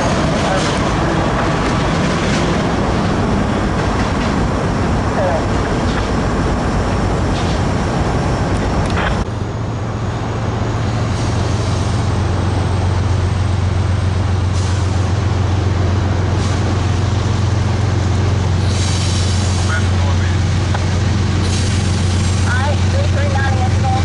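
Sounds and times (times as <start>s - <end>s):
diesel locomotive engine droning: 0.0s - 24.0s
train rumbling past: 0.0s - 24.0s.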